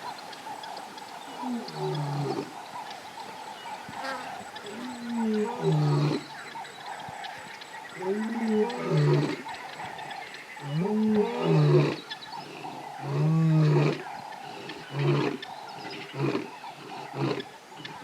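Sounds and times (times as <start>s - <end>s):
deep hooting animal calls: 0.5s - 18.0s.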